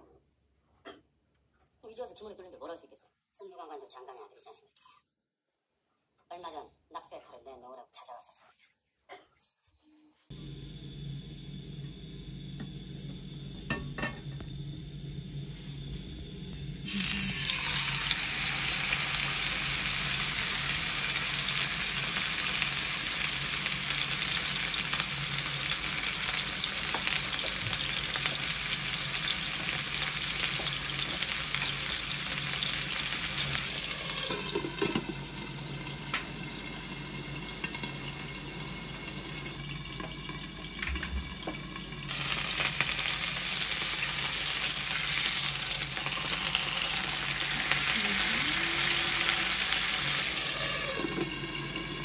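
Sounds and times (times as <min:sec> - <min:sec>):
food sizzling in a pan: 0:10.3 - 0:52.0.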